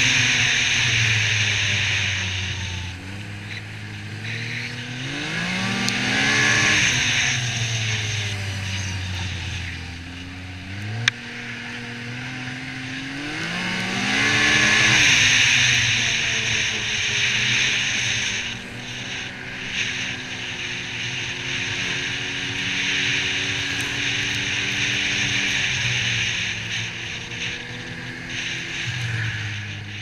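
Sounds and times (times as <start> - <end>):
hiss of track and snow spray: 0.0 - 10.2, 12.9 - 30.0
snowmobile engine running: 0.0 - 30.0.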